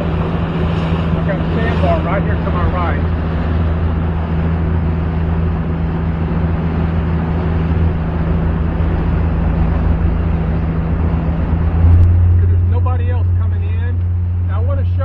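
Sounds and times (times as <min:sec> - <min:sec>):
motorboat engine running: 0:00.0 - 0:15.0.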